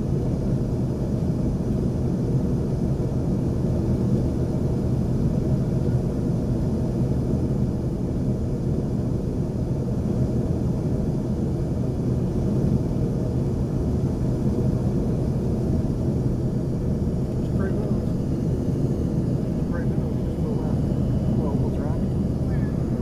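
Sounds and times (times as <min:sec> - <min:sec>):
jet engine cabin rumble: 0:00.0 - 0:23.0.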